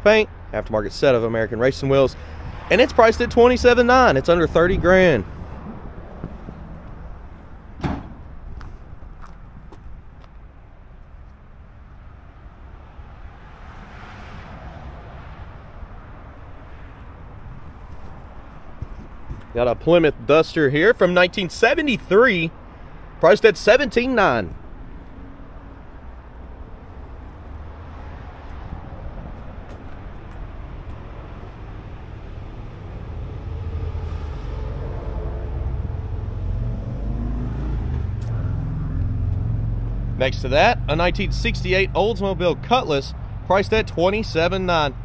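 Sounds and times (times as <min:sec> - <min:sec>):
low outdoor rumble: 0:00.0 - 0:13.4, 0:15.6 - 0:45.0
road noise: 0:00.0 - 0:45.0
vehicle passing by: 0:01.7 - 0:09.3, 0:12.7 - 0:19.7, 0:22.1 - 0:45.0.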